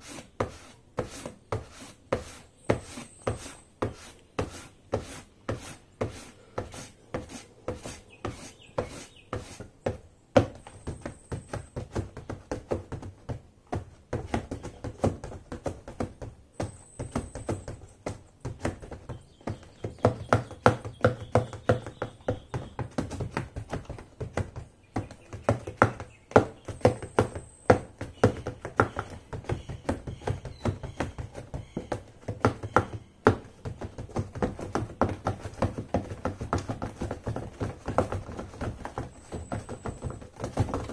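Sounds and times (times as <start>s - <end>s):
heels tapping on cardboard: 0.2s - 40.9s.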